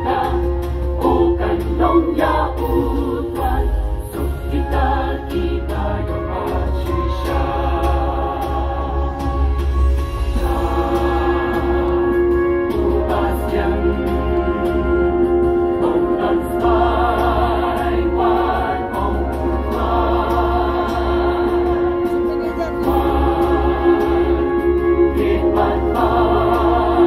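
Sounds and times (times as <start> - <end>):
mixed choir singing: 0.0 - 27.0.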